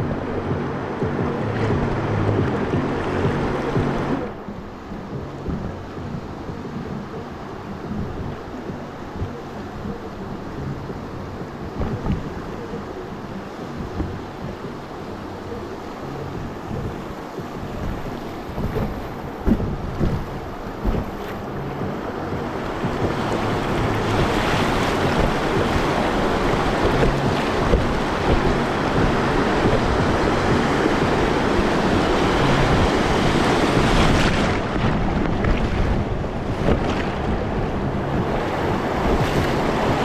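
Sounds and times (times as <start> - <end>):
river water rushing: 0.0 - 40.0
wind buffeting microphone: 0.0 - 40.0.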